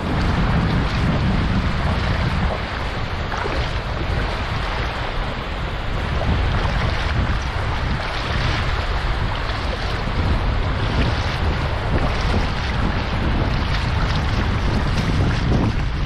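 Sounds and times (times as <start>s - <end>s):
surf washing over sand: 0.0s - 16.0s
wind rumbling on microphone: 0.0s - 16.0s.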